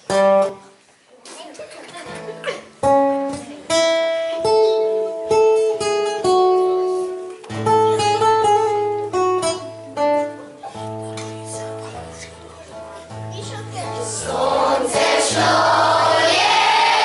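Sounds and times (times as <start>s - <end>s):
acoustic guitar melody: 0.0s - 1.0s, 2.0s - 17.0s.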